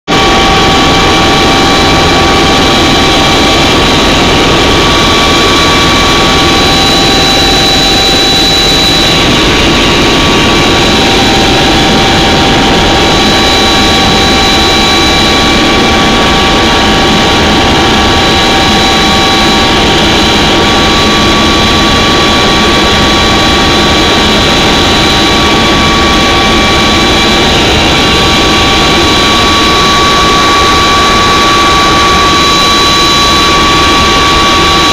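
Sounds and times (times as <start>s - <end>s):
helicopter cabin drone: 0.1s - 34.9s
high turbine whine: 0.1s - 34.9s.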